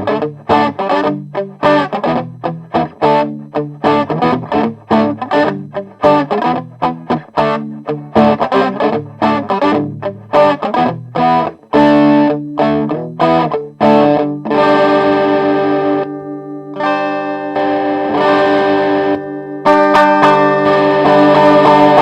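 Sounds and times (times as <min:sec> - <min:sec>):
overdriven electric guitar chords: 0:00.0 - 0:22.0.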